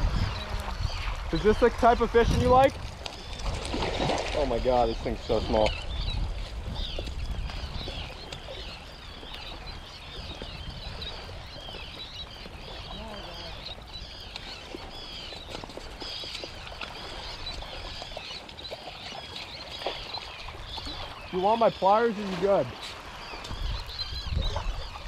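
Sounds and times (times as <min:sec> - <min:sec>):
seabirds chirping: 0:00.0 - 0:25.0.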